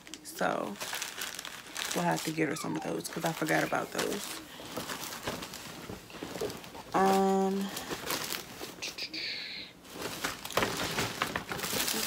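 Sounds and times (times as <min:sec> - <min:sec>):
plastic packaging crinkling: 0:00.0 - 0:08.8, 0:09.8 - 0:12.0.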